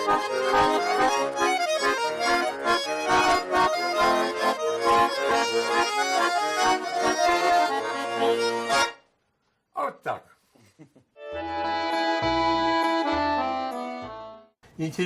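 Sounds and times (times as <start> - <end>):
button accordion folk tune: 0.0 - 9.1, 11.2 - 14.6.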